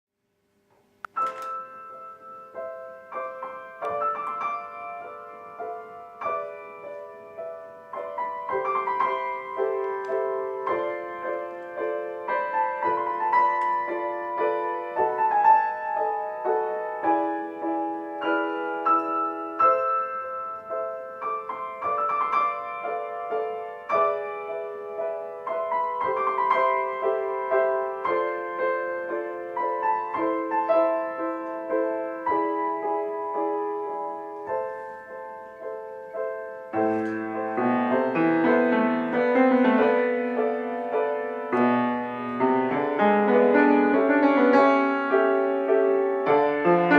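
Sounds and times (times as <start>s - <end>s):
solo piano: 0.2s - 46.9s.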